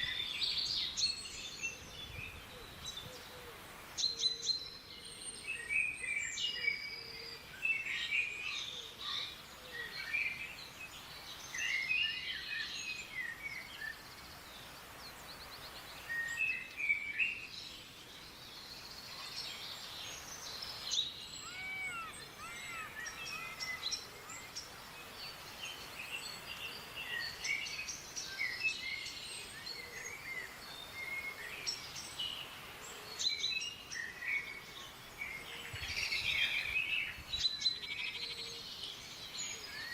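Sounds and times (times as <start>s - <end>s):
faint background hiss: 0.0s - 39.9s
songbirds chirping and twittering: 0.0s - 39.9s.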